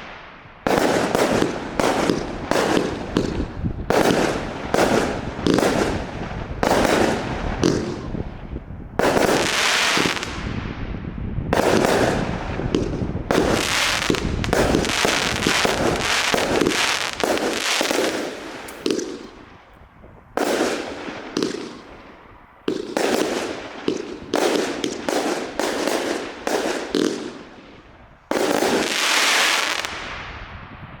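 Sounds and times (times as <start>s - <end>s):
firework bursts: 0.0s - 8.4s, 9.0s - 10.6s, 11.6s - 19.7s, 20.3s - 30.4s.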